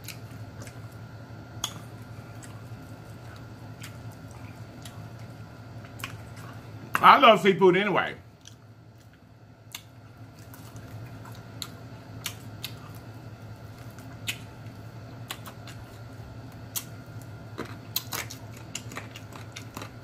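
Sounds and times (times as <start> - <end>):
chewing with mouth clicks: 0.0 - 1.0, 1.6 - 7.0, 8.4 - 20.0
low steady hum: 0.0 - 20.0.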